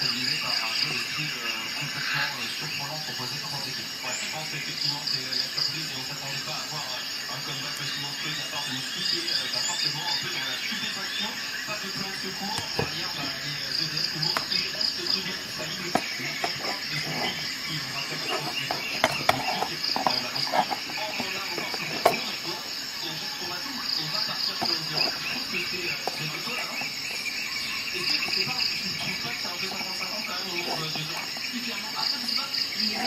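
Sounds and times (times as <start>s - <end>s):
faint talk: 0.0s - 33.0s
high pulsing insect chirr: 0.0s - 33.0s.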